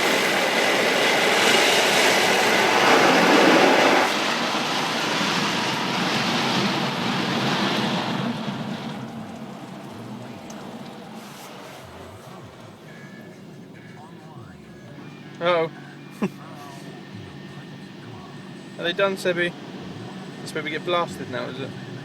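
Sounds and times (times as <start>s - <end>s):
car wash water and machinery rushing: 0.0s - 22.0s.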